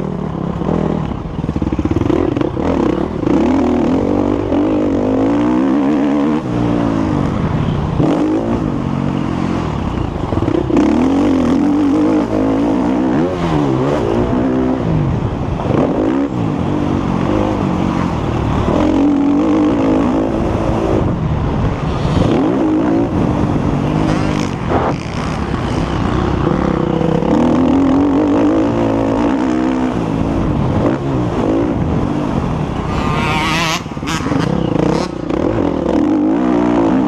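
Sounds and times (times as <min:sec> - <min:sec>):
motocross bike engine revving: 0:00.0 - 0:21.2, 0:21.8 - 0:37.0.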